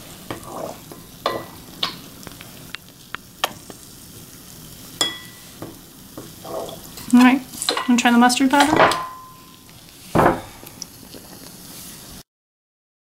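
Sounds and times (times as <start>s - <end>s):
baking powder fizzing: 0.0s - 12.2s.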